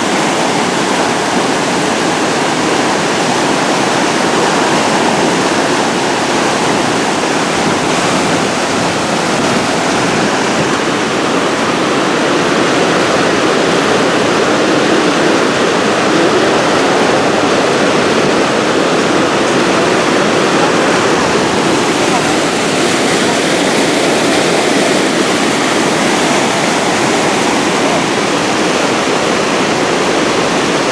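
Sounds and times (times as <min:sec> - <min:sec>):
water pouring over a dam: 0:00.0 - 0:30.9.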